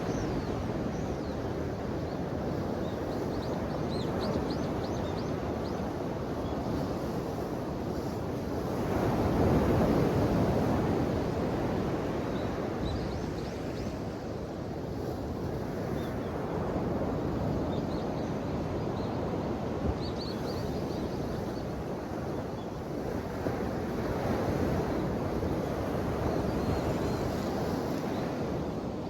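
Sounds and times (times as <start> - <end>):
ocean waves washing ashore: 5.4 - 29.0.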